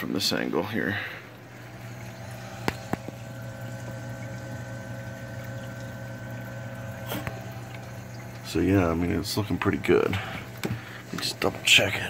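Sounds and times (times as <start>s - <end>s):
water flowing: 0.3s - 12.0s
pump humming: 0.6s - 12.0s.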